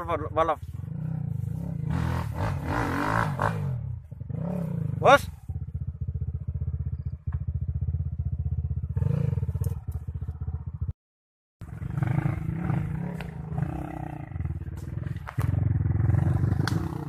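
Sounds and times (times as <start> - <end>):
dirt bike engines puttering: 0.0 - 10.9, 11.6 - 17.0
dirt bike engine revving: 0.8 - 10.9, 11.6 - 17.0.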